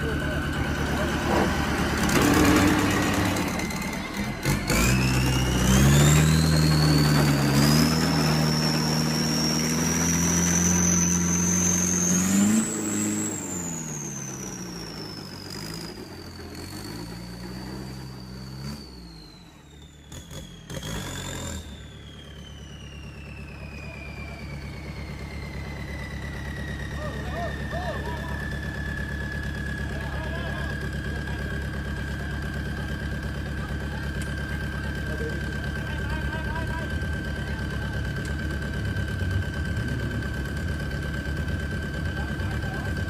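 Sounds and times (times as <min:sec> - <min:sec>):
engine revving: 0:00.0 - 0:43.0.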